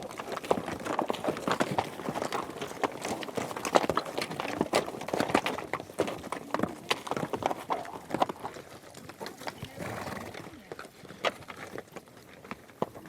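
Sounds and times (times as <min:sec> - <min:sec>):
horse hooves galloping: 0:00.0 - 0:13.0.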